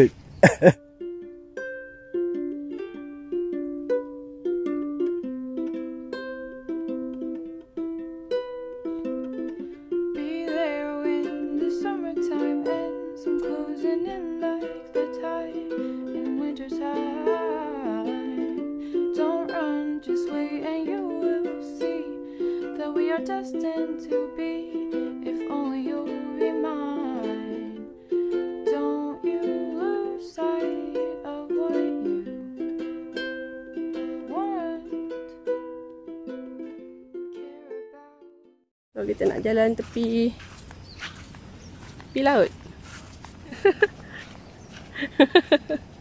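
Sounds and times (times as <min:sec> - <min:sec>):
plucked string accompaniment: 0:00.7 - 0:39.5.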